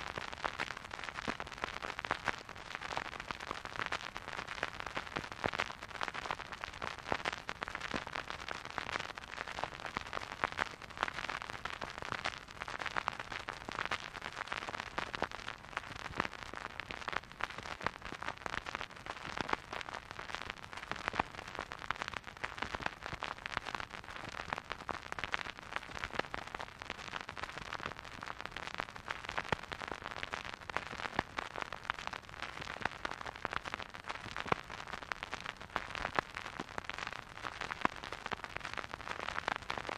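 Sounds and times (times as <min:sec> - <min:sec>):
vinyl record crackle and hiss: 0:00.0 - 0:39.9.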